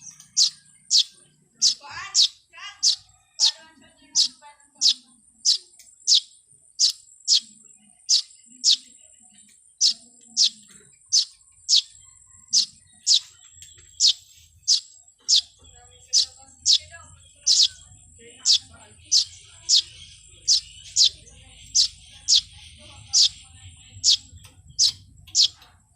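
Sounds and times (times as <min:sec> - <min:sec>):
bird chirping: 0:00.0 - 0:25.9.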